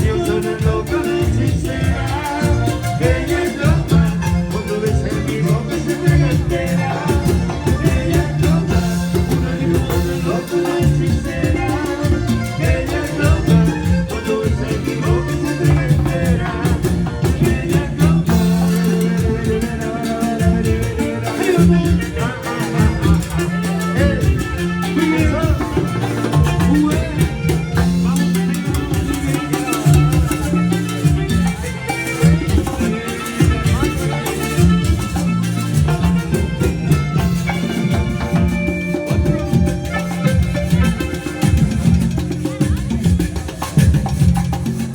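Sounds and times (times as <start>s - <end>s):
band playing music: 0.0s - 44.9s
drums and percussion beat: 0.0s - 44.9s
heavy bass line: 0.0s - 44.9s.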